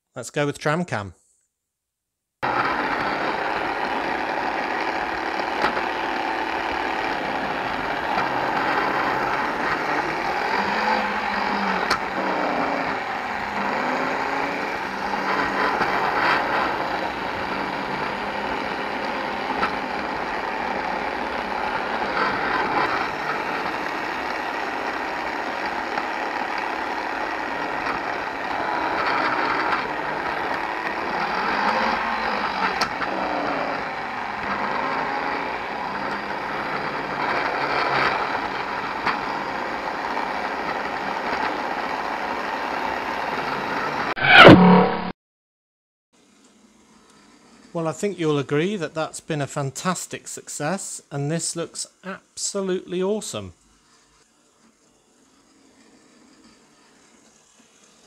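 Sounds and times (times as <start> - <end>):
toy monorail motor running: 2.4 - 44.1, 46.3 - 48.8, 53.7 - 58.0.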